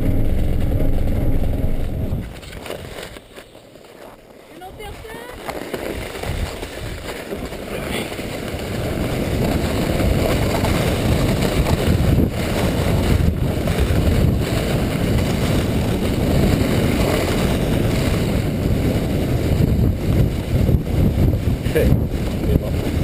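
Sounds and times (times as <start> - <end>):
wind on microphone: 0.0 - 3.0, 4.6 - 23.0
sled runners rumbling on snow: 0.0 - 23.0.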